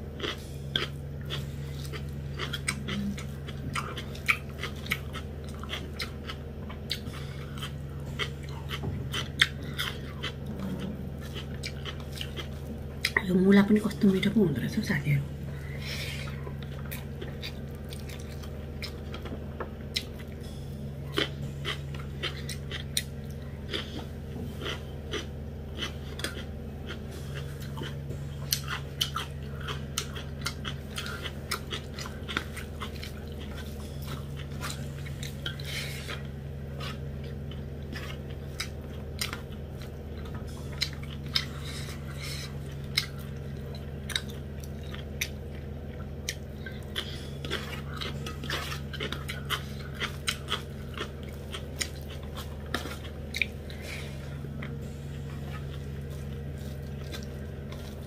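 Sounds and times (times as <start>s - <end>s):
steady low hum: 0.0s - 58.0s
close chewing: 0.1s - 14.3s, 15.5s - 58.0s.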